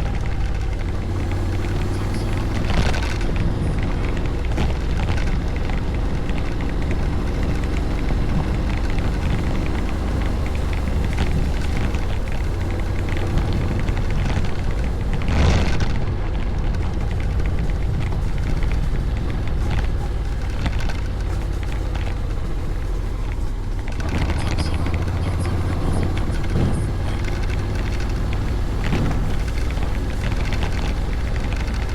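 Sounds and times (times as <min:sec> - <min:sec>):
scooter engine drone: 0:00.0 - 0:31.9
wind buffeting microphone: 0:00.0 - 0:31.9.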